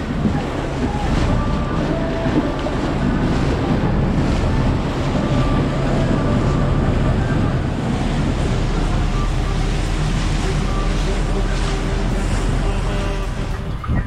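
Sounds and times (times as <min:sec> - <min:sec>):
low engine drone: 0:00.0 - 0:14.0
water rushing past boat hull: 0:00.0 - 0:14.0
wind buffeting microphone: 0:00.0 - 0:14.0.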